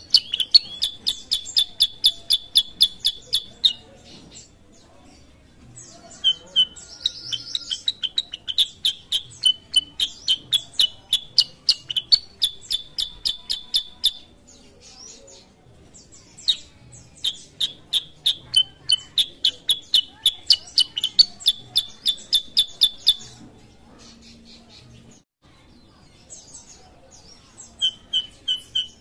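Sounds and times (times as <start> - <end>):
bird chirping: 0.0 - 25.2, 25.8 - 29.0.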